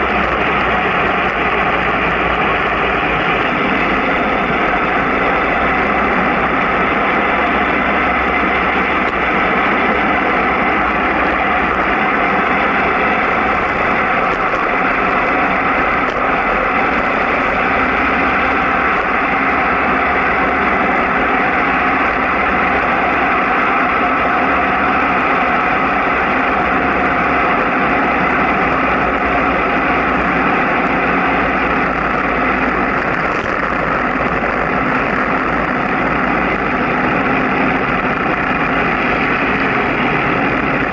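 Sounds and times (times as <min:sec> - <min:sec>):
road noise: 0:00.0 - 0:40.9
wind rushing on microphone: 0:00.0 - 0:40.9.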